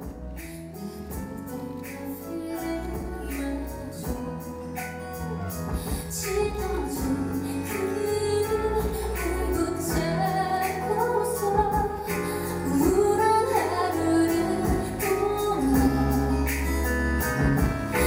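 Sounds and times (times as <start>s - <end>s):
pop ballad with woman singing: 0.0s - 18.0s.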